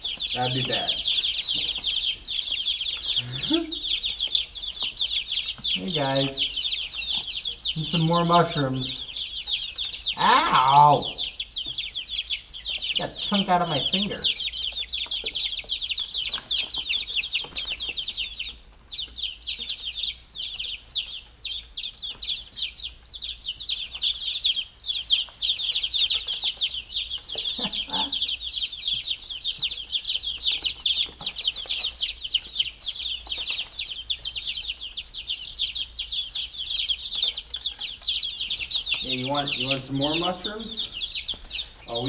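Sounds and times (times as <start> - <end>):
baby chicks peeping: 0.0 - 42.0.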